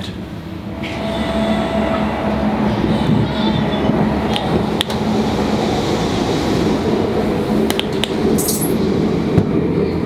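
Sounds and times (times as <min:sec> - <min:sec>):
electric train rumbling: 0:00.0 - 0:10.0.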